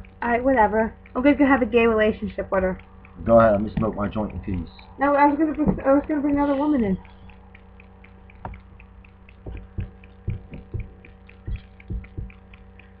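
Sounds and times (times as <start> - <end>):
faint light ticking: 0.0 - 13.0
steady hum: 0.0 - 13.0.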